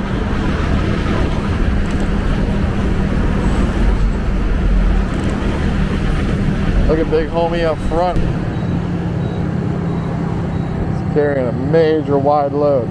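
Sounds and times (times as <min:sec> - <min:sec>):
motorcycle engine: 0:00.0 - 0:12.9
wind and road noise: 0:00.0 - 0:12.9.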